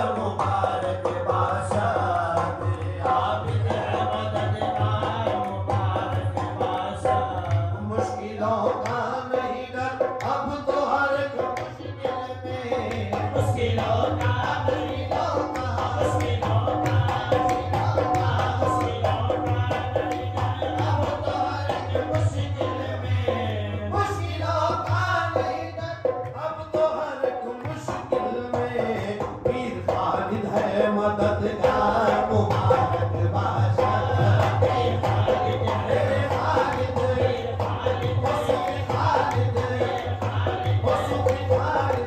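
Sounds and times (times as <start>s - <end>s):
hand-drum beats: 0.0s - 42.0s.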